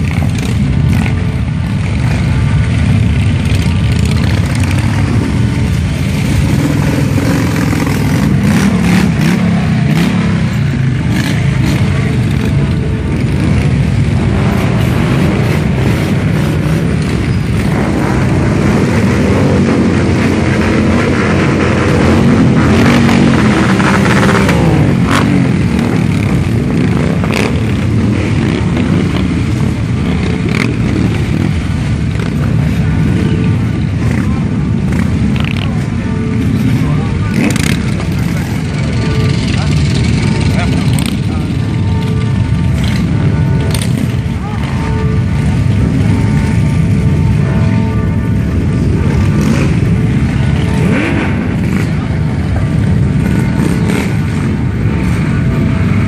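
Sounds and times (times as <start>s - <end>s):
motorcycle engines rumbling: 0.0s - 56.0s.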